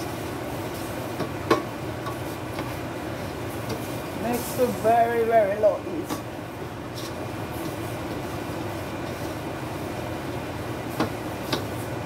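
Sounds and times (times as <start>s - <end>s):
steady hum and hiss: 0.0s - 12.0s.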